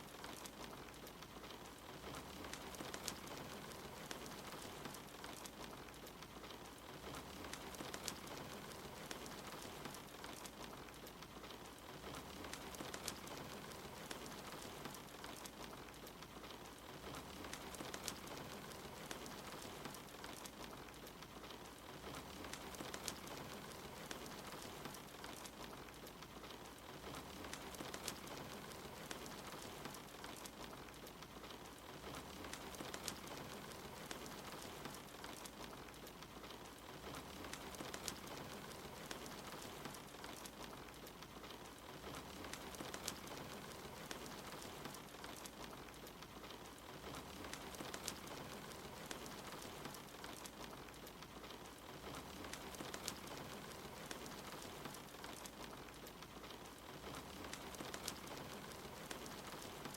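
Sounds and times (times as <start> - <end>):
soft rain: 0.0 - 59.9
wood fire crackling: 0.0 - 59.9.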